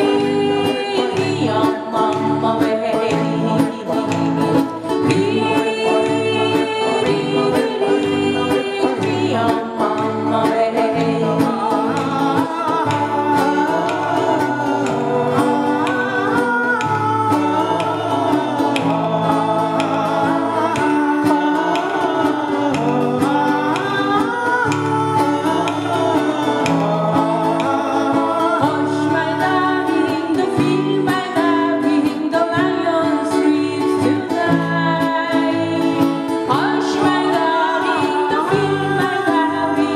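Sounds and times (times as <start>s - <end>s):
acoustic guitars strumming: 0.0s - 39.9s
group singing: 0.0s - 39.9s.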